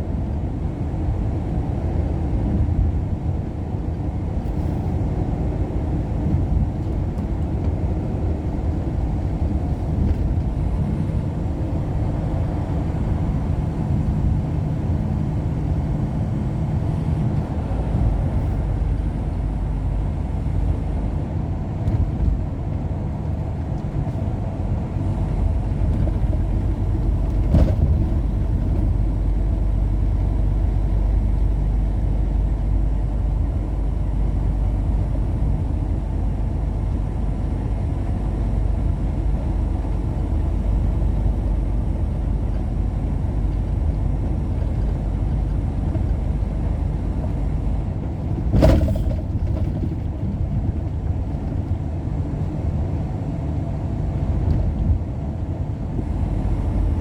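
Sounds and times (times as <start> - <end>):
road vehicle rumble: 0.0 - 57.0.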